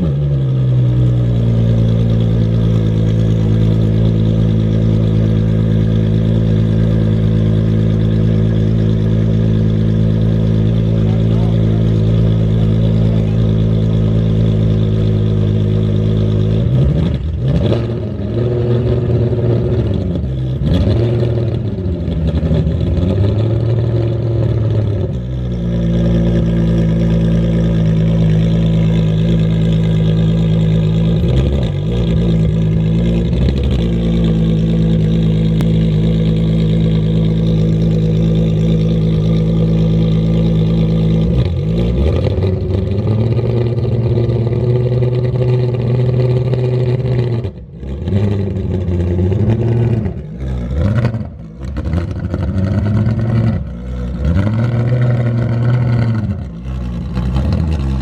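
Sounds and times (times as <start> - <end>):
sports car engine idling and revving: 0.0 - 58.0.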